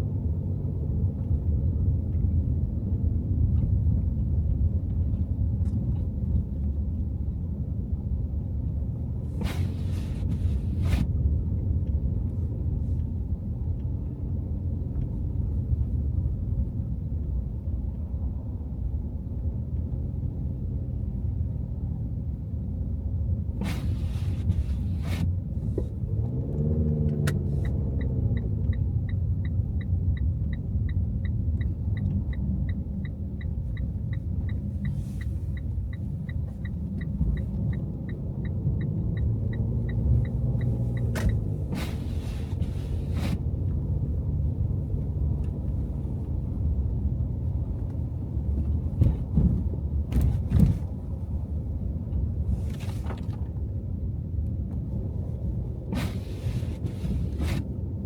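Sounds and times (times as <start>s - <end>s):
car engine and road noise: 0.0s - 58.0s
turn signal ticking: 0.2s - 18.4s, 21.4s - 58.0s.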